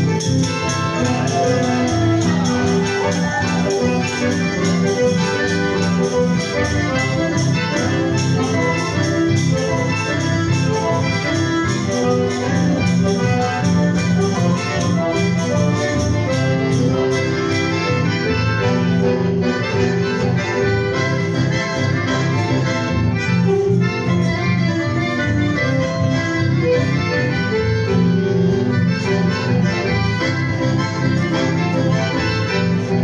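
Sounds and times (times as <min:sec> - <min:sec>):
accordion and bandoneon playing: 0:00.0 - 0:33.0.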